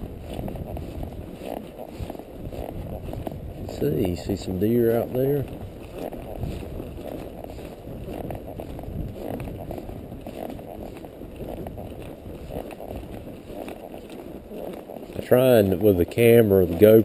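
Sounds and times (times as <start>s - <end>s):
hooves on dirt: 0.0s - 17.0s
saddle creaking: 0.0s - 17.0s.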